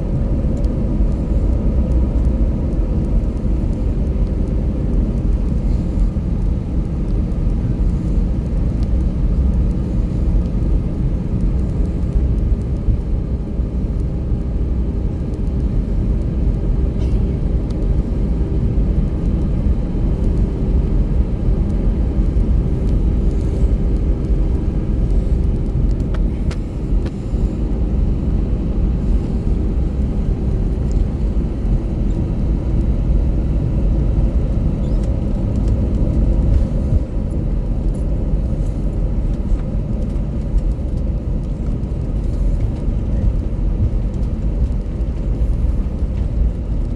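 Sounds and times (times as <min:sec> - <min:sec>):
jet engines rumbling: 0:00.0 - 0:46.9
steady cabin hum: 0:00.0 - 0:46.9.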